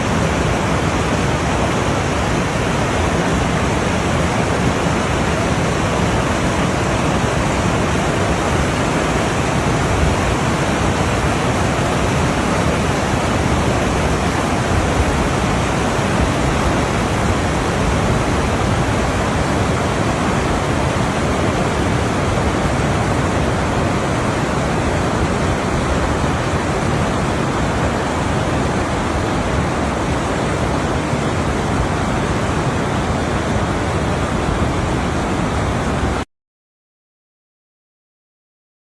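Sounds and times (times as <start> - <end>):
mountain river rushing: 0.0 - 36.2.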